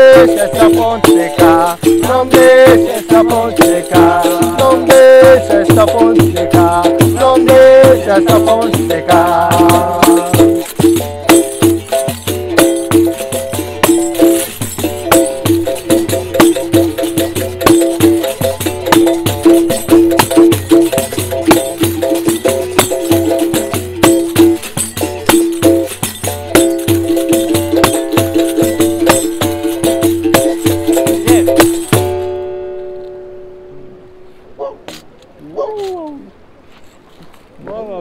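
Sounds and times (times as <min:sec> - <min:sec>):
shaker rattles: 0:00.0 - 0:32.2
pandeiro jingles: 0:00.0 - 0:33.1, 0:34.6 - 0:37.6.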